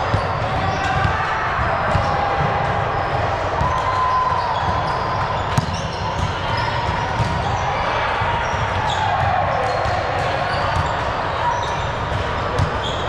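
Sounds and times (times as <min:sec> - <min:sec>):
echoing voices: 0:00.0 - 0:13.0
volleyballs hit and bouncing: 0:00.0 - 0:13.0.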